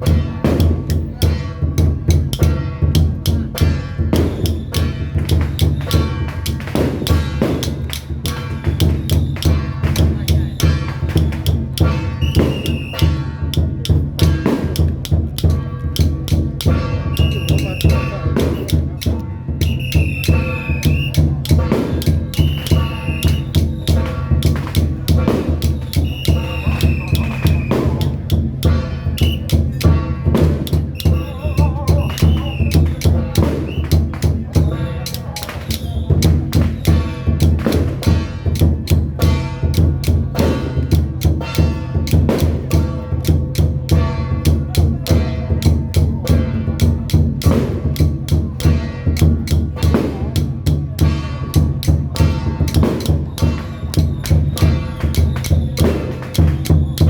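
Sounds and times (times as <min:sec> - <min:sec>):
pounding drumbeat: 0:00.0 - 0:57.0.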